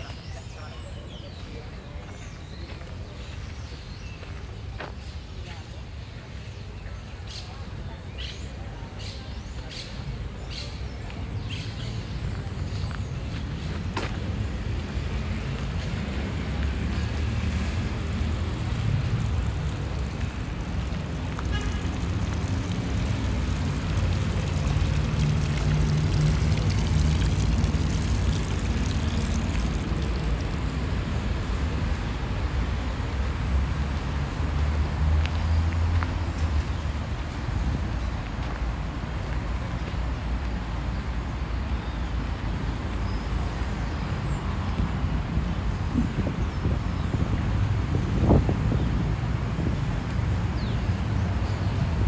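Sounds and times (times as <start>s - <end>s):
traffic engines rumbling: 0.0s - 52.0s.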